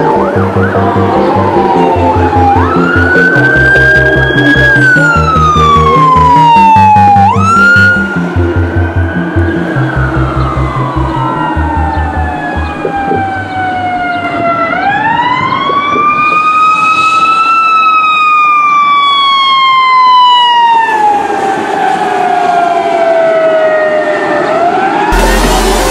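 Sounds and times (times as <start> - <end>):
fire truck siren wailing: 0.0 - 25.9.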